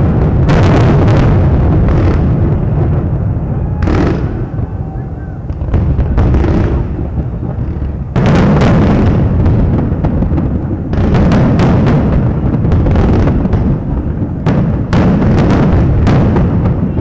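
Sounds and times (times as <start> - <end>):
continuous low rumble: 0.0 - 17.0
firework shells booming: 0.0 - 17.0.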